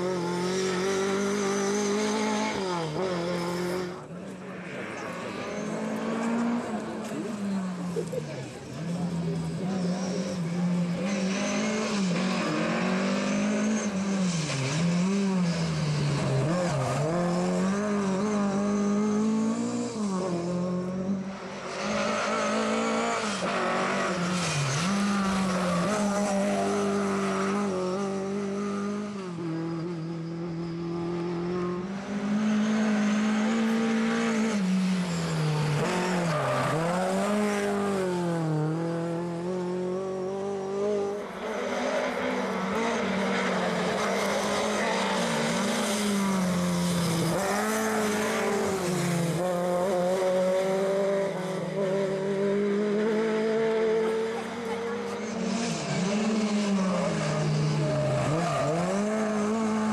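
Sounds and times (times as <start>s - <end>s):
rally car engine at full throttle: 0.0s - 59.9s.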